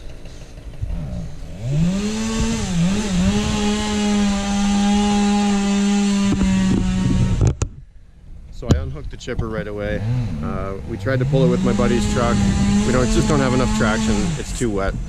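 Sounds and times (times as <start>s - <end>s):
motor revving: 0.0s - 7.7s, 9.8s - 15.0s.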